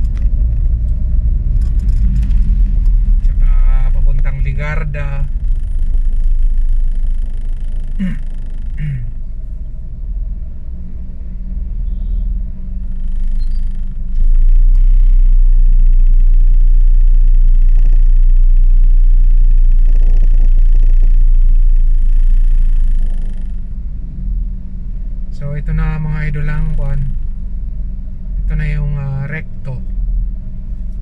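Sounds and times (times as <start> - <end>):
car engine idling: 0.0 - 31.0
traffic rumble: 0.0 - 31.0.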